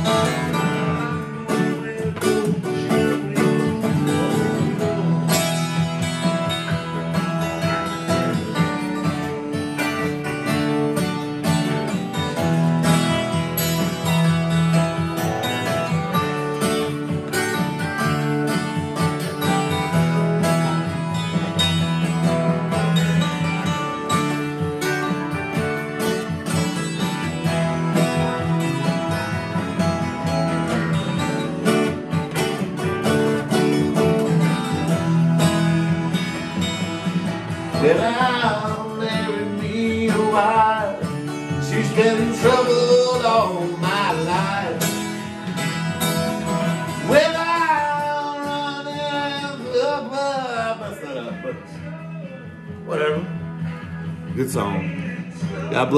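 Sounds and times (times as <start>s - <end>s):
acoustic guitar strumming: 0.0s - 55.9s.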